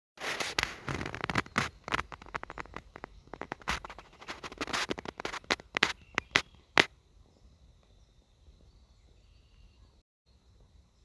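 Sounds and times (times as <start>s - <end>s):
sharp crackling and rustling: 0.2s - 9.2s.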